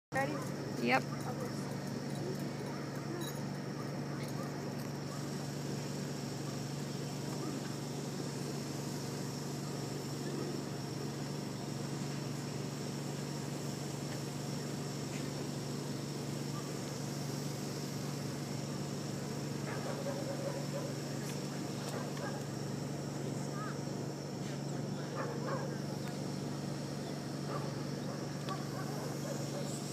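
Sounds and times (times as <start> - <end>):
insects chirring: 0.1 - 29.9.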